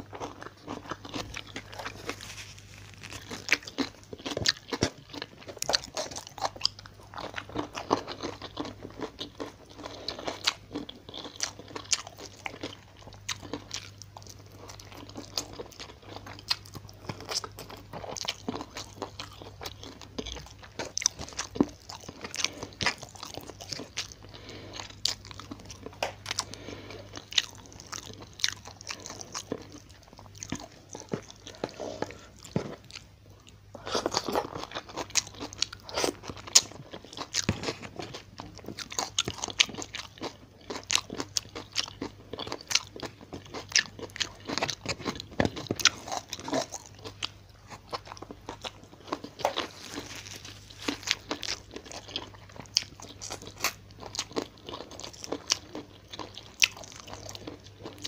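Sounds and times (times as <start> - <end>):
person crunching and chewing food: 0.0 - 58.0.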